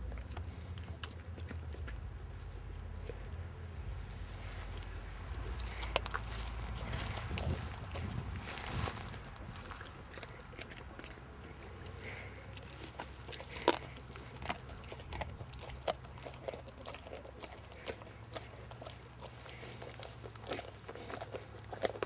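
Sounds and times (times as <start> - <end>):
dog chewing and crunching: 0.0 - 22.0
steady low hum: 0.0 - 22.0.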